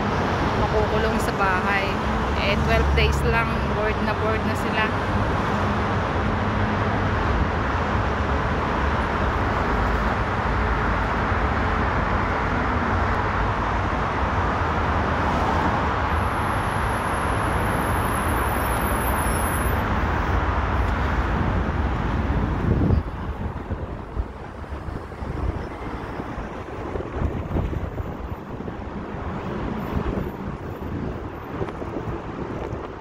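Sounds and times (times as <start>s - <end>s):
cars passing: 0.0s - 33.0s.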